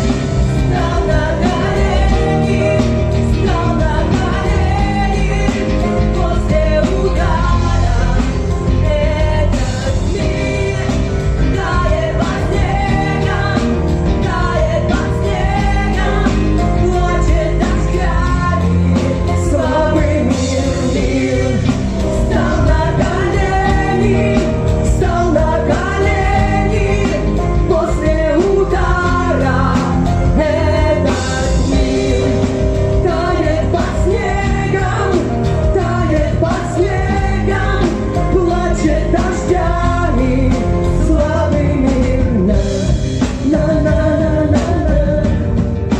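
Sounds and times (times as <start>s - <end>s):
person singing: 0.0s - 45.8s
live pop-rock band: 0.0s - 45.9s.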